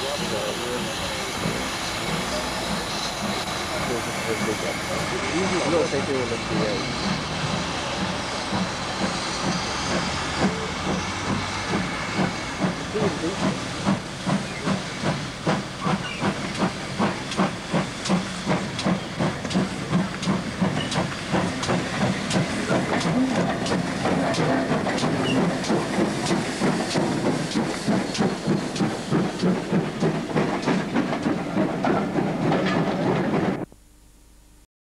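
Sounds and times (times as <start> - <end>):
steam hissing: 0.0 - 33.7
steam locomotive chuffing: 0.0 - 33.7.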